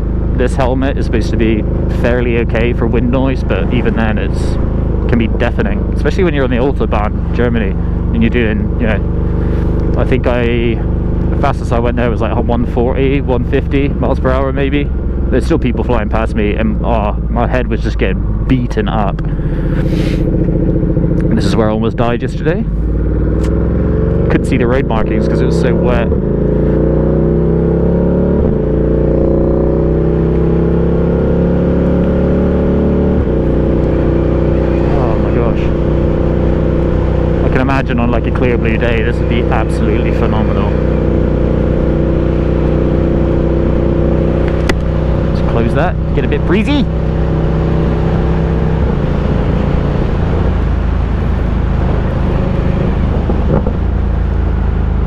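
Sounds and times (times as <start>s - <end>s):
motorcycle engine at road speed: 0.0s - 55.0s.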